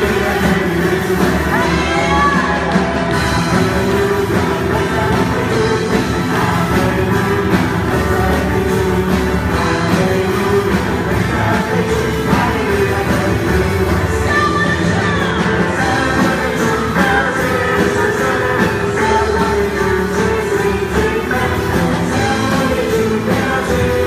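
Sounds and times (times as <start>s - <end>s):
live rock band with singers: 0.0s - 24.0s.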